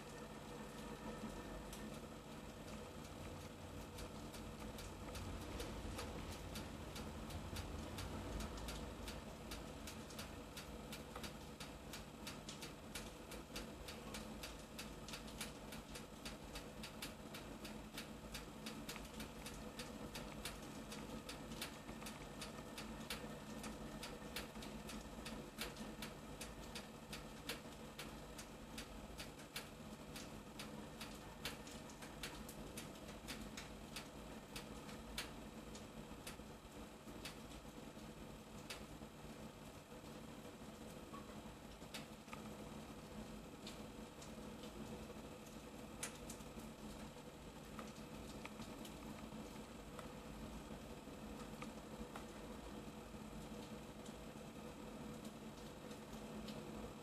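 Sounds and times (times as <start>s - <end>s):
pellet stove fire crackling: 0.0s - 57.0s.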